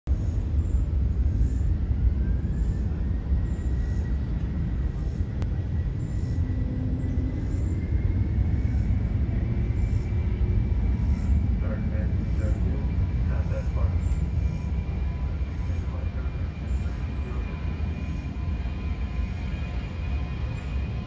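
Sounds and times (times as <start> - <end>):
faint jet engine whine: 0.1 - 21.0
jet engines rumbling: 0.1 - 21.0.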